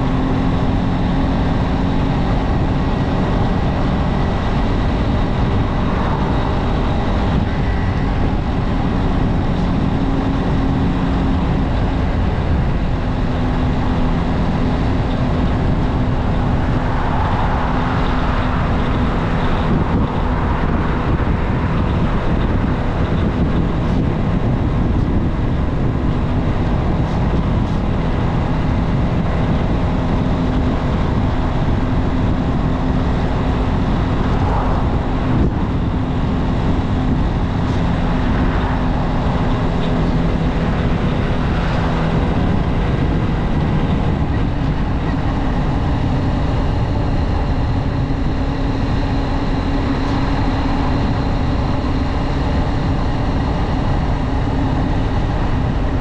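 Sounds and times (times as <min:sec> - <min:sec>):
heavy wind noise: 0:00.0 - 0:56.0
motorcycle engine cruising: 0:00.0 - 0:56.0
road noise: 0:00.0 - 0:56.0.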